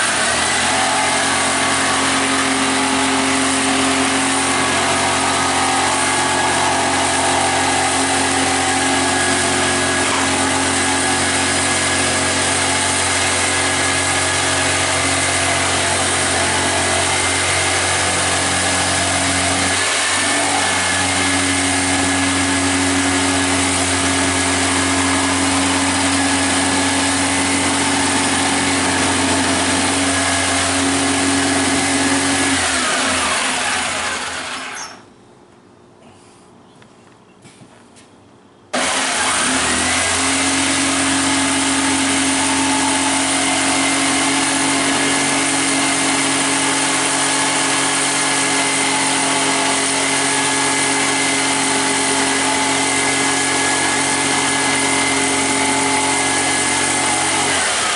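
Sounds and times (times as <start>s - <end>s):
power tool motor running: 0.0s - 35.1s, 38.8s - 57.9s.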